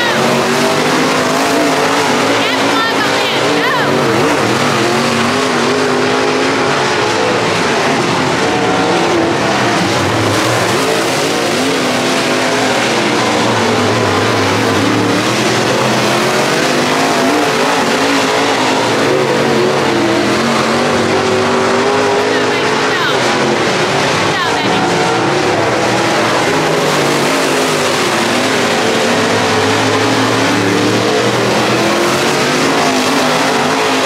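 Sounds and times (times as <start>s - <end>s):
race car engines running hard: 0.0s - 34.0s.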